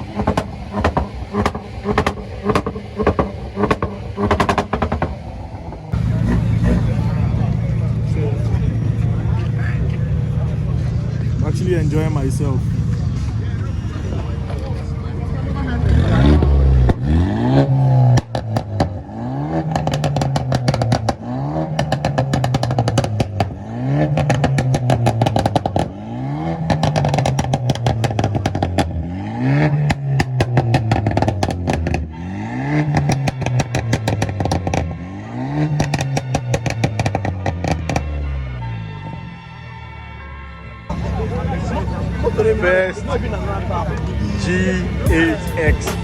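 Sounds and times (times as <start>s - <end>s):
car engine revving hard: 0.0s - 14.5s, 15.2s - 39.3s, 40.9s - 46.0s
exhaust pops and crackles: 0.0s - 38.2s.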